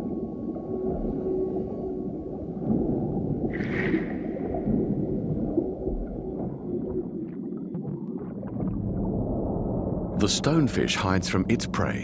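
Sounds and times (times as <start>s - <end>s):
underwater ambience: 0.0s - 12.0s.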